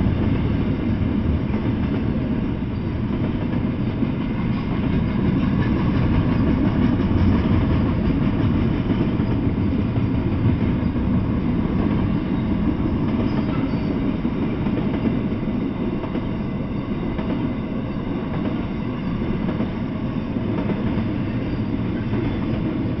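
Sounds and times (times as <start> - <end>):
freight train wheels rumbling on rails: 0.0 - 23.0.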